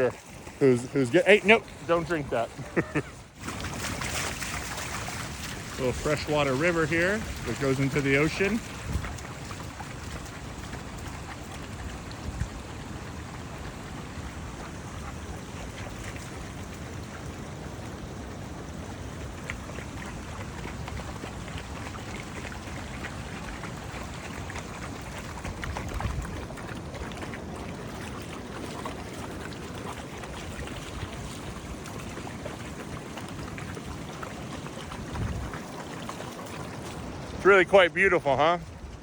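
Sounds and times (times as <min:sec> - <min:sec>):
stream running into sea: 0:00.0 - 0:39.0.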